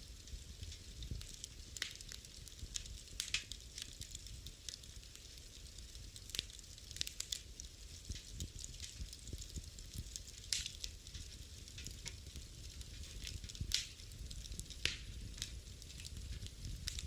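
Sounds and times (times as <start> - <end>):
wood fire crackling: 0.0 - 17.0
fire sharp pops: 0.2 - 17.0.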